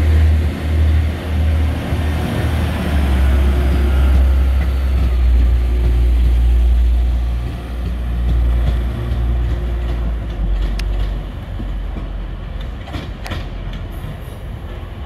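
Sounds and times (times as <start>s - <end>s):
diesel train engines droning: 0.0s - 15.0s.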